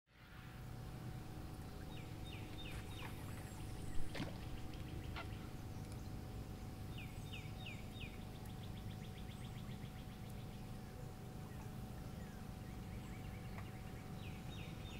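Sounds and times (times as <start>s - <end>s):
songbird singing trills: 1.5s - 14.9s.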